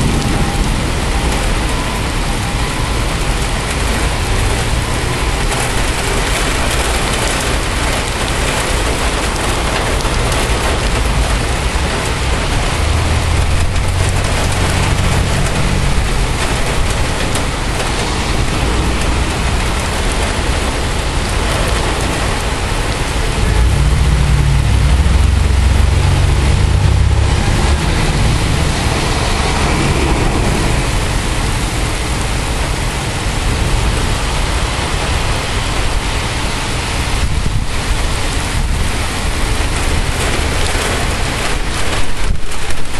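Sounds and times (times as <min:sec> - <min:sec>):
heavy rain pouring: 0:00.0 - 0:42.9
thunder rumbling: 0:00.0 - 0:42.9.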